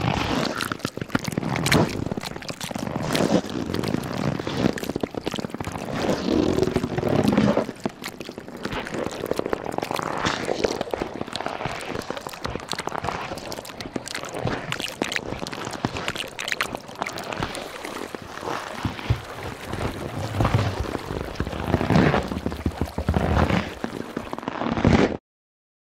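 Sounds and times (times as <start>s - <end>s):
rush of water: 0.0s - 24.5s
sea ice crackling and clicking: 0.0s - 25.1s.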